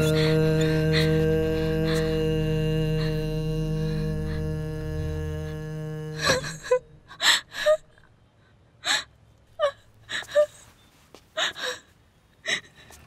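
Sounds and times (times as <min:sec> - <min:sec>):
woman sobbing: 0:00.0 - 0:08.1, 0:08.8 - 0:10.7, 0:11.4 - 0:12.8.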